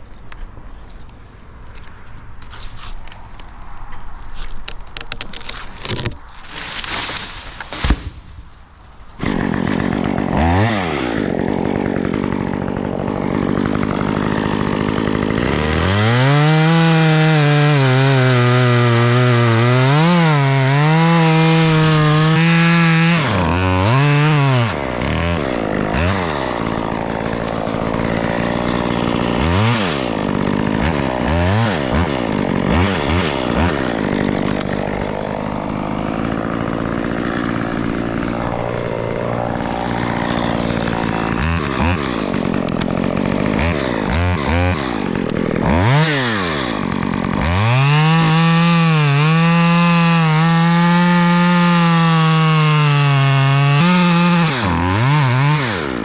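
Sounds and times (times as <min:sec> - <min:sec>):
chainsaw engine revving: 0:09.2 - 0:56.0.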